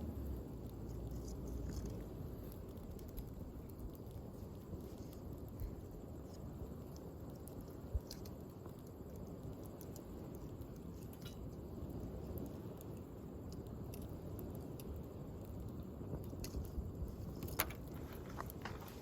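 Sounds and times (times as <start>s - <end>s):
low background noise: 0.0s - 19.0s
wood fire crackling: 0.0s - 19.0s.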